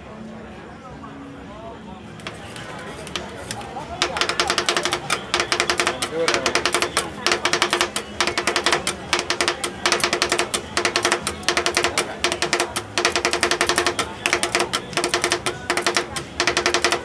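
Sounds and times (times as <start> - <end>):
metal spatulas tapping on steel plate: 3.1 - 17.0.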